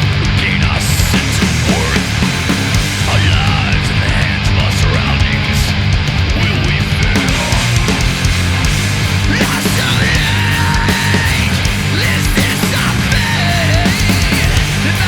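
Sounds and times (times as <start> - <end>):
heavy rock music: 0.0 - 15.0.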